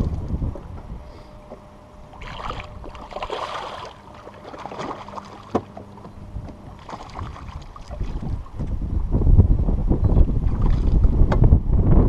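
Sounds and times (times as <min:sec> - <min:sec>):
water sloshing against boat hull: 0:00.0 - 0:09.2, 0:10.0 - 0:11.5.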